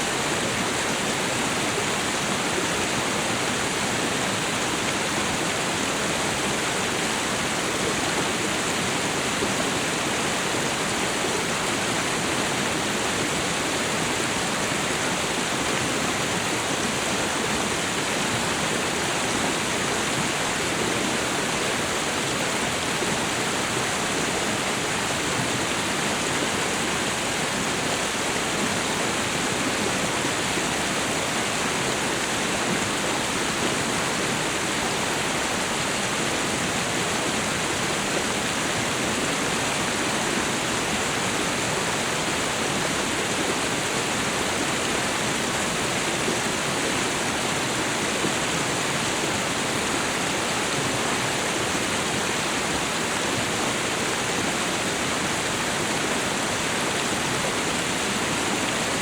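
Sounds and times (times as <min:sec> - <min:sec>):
waterfall and river rushing: 0:00.0 - 0:59.0.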